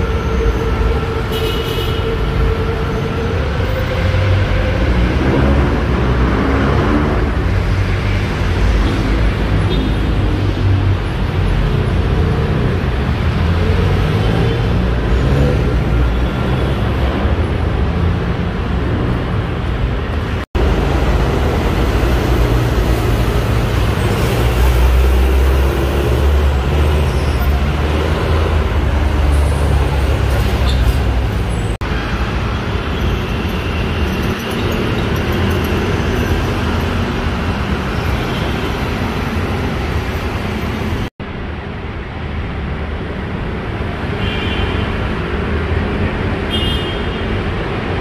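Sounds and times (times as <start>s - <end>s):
city road traffic: 0.0s - 48.0s.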